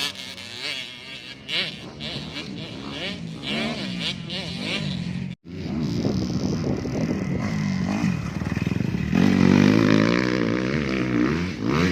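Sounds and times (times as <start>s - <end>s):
dirt bike engines revving: 0.0s - 11.9s.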